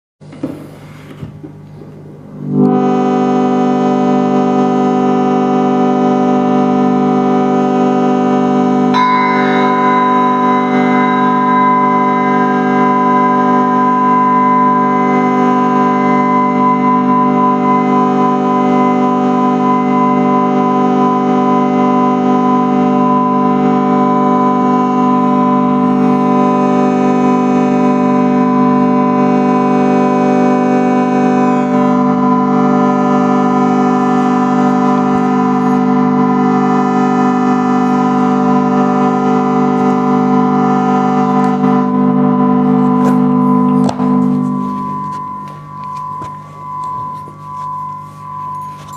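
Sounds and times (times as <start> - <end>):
low instrumental drone: 2.3 - 48.9.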